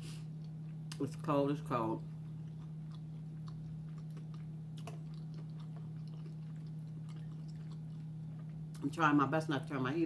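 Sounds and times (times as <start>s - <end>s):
steady low hum: 0.0s - 10.0s
chewing with wet clicks and crunches: 0.3s - 9.0s.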